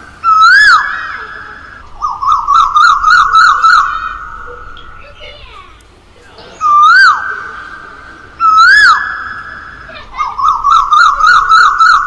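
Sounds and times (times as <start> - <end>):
koel singing whistled notes: 0.0 - 5.1, 6.4 - 12.0.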